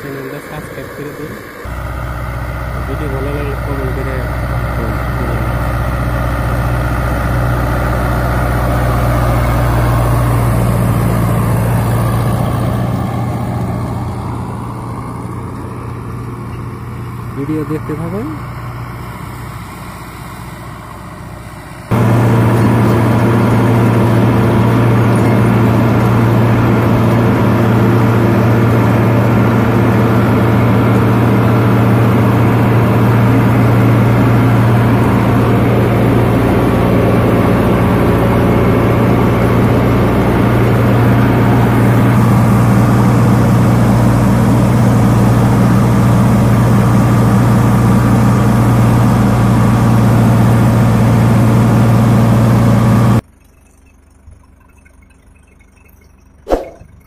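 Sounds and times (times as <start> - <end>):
tractor diesel engine under load: 0.0 - 53.3.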